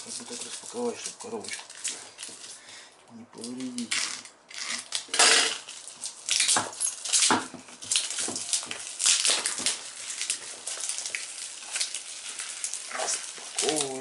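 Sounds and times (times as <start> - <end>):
plastic wrapping crinkling and tearing: 0.0 - 14.0.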